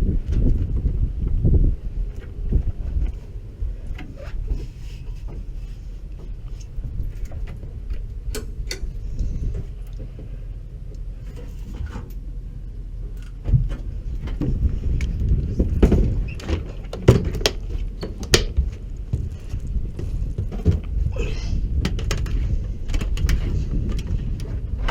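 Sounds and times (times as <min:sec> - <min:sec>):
wind rumble on microphone: 0:00.0 - 0:24.9.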